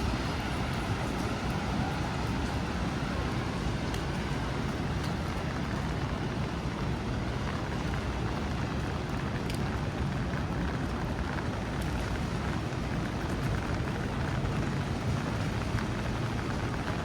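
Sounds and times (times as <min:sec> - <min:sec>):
city street traffic: 0:00.0 - 0:17.0
steady rain: 0:00.0 - 0:17.0.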